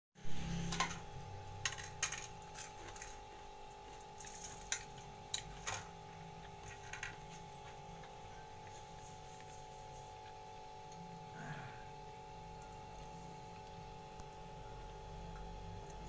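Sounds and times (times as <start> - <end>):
faint steady hum: 0.2 - 16.0.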